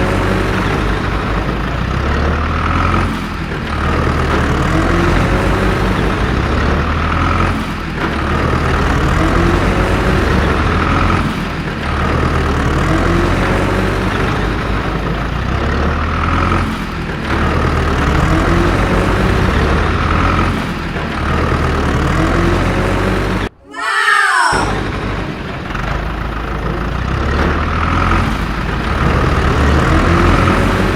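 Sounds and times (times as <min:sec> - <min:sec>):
heavy engine running: 0:00.0 - 0:23.5, 0:24.8 - 0:30.9.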